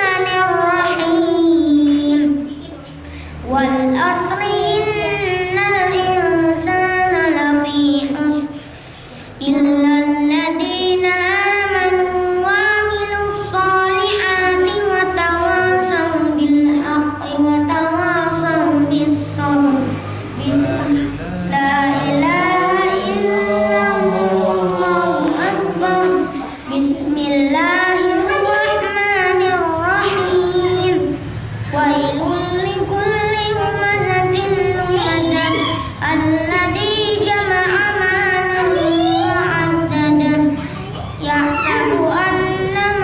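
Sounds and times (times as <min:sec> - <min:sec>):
boy reciting melodically: 0:00.0 - 0:43.0.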